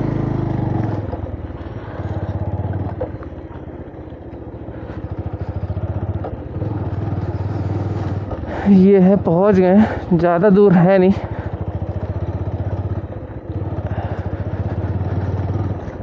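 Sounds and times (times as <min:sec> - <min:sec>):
motorcycle engine at low speed: 0:00.0 - 0:16.0.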